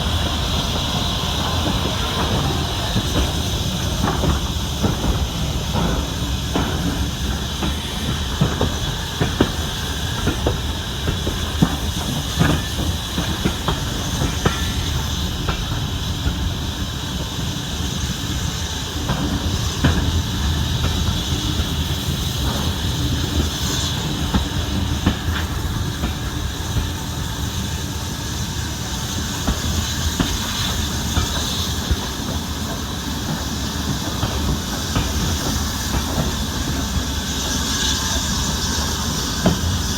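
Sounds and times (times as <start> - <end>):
steam train rumble and hiss: 0.0 - 39.9.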